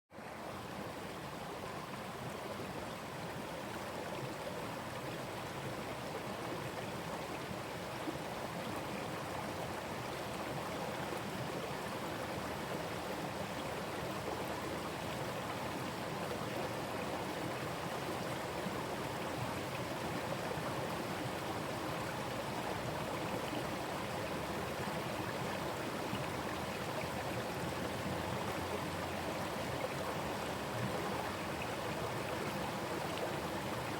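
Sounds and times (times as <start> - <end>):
stream rushing over rocks: 0.2 - 33.9.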